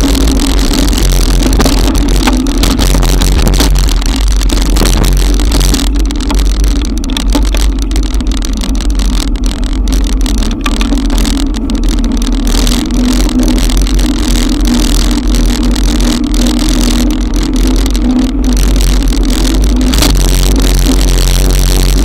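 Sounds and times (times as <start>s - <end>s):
low hum: 0.0s - 22.0s
wind and rain on microphone: 0.0s - 22.0s.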